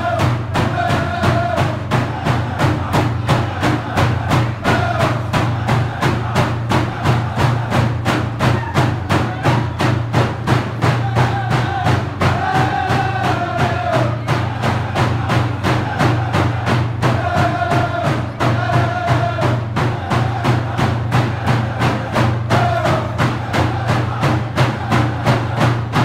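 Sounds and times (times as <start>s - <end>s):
drum singers' voices: 0.0s - 26.0s
hand drums beating: 0.0s - 26.0s.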